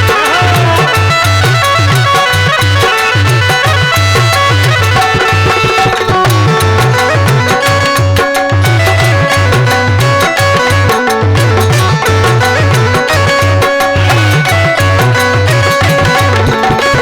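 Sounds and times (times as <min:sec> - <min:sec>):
driving drum beat: 0:00.0 - 0:17.0
sliding melody line: 0:00.0 - 0:17.0.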